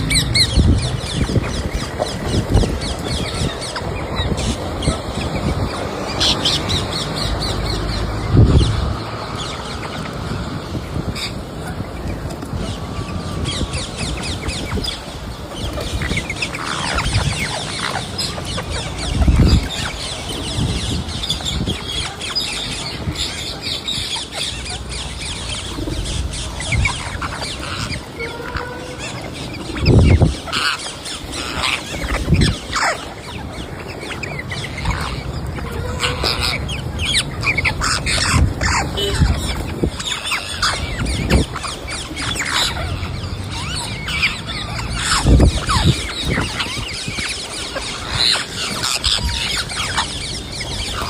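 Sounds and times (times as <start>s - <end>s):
parrot squawking and chirping: 0.0s - 51.0s.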